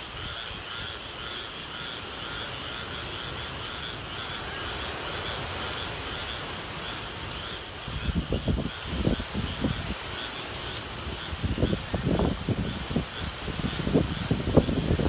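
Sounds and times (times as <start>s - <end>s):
frogs calling in chorus: 0.0s - 15.0s
rain: 0.0s - 15.0s
wind rumbling: 0.0s - 15.0s.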